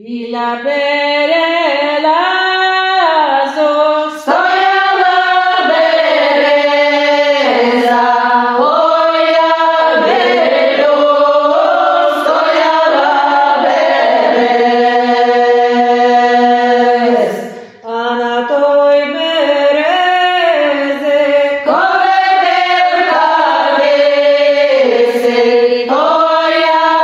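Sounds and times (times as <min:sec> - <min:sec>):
women singing unaccompanied: 0:00.0 - 0:27.0.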